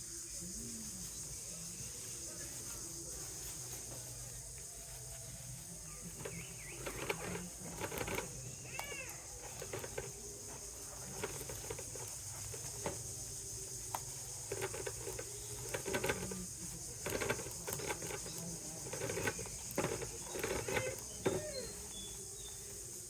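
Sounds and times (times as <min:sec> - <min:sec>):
dry straw rustling and crackling: 0:01.1 - 0:23.0.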